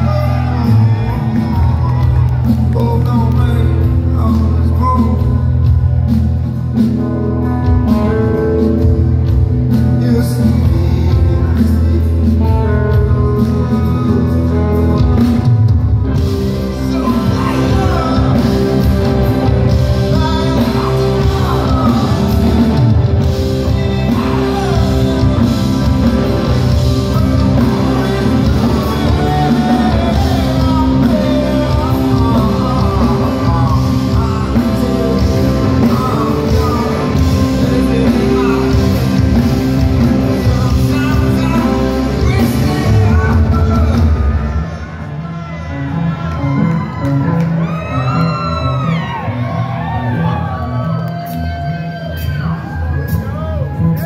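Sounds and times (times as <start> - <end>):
man singing: 0.0 - 5.8, 7.7 - 15.6, 16.5 - 46.1
rock band playing live: 0.0 - 54.0.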